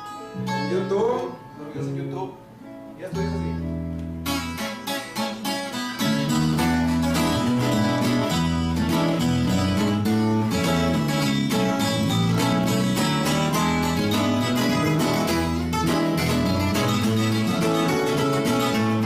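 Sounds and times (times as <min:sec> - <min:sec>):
acoustic guitars playing: 0:00.0 - 0:19.0.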